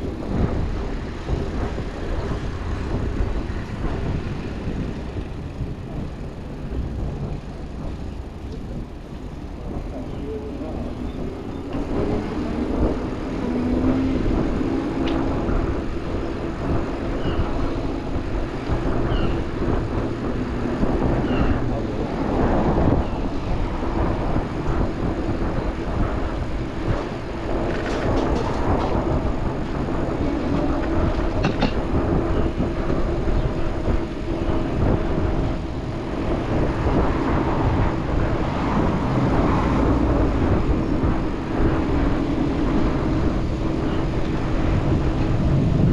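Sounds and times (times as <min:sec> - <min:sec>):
streetcar rumble and hum: 0:00.0 - 0:45.9.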